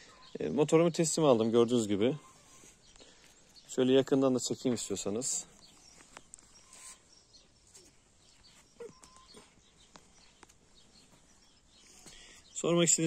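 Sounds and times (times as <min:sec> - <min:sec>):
faint chirps: 0:00.0 - 0:00.6, 0:01.9 - 0:13.0.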